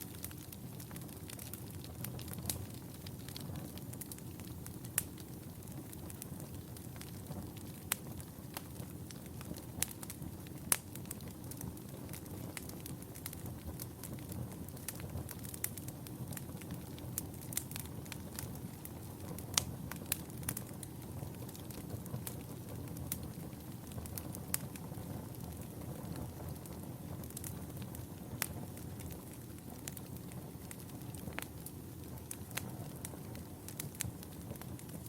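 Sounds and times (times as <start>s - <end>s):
fire crackling and popping: 0.0s - 35.0s
wood fire hissing and rumbling: 0.0s - 35.0s.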